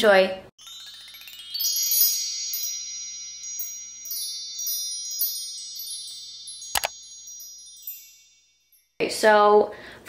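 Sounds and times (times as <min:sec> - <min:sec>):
wind chimes tinkling: 0:00.6 - 0:09.6.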